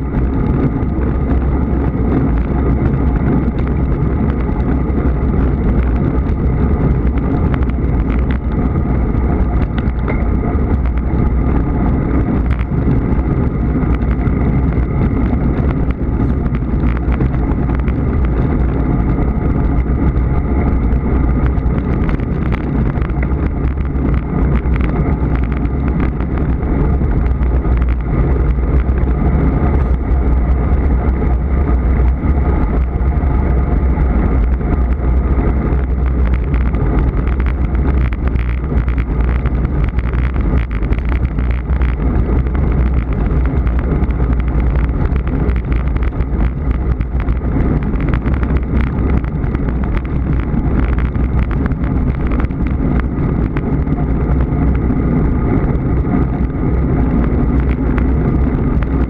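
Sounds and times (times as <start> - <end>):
road rumble: 0.0 - 59.0
wind buffeting microphone: 0.0 - 59.0
wind rush: 0.0 - 59.0.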